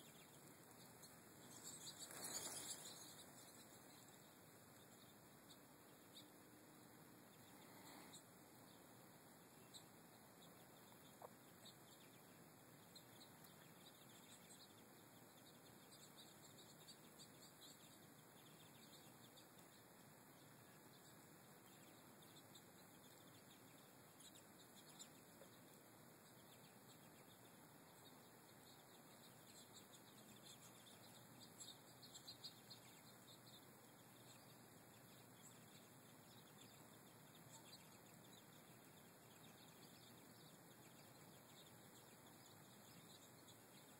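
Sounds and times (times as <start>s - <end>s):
finches twittering: 0.0s - 43.9s
steady background hiss: 0.0s - 43.9s.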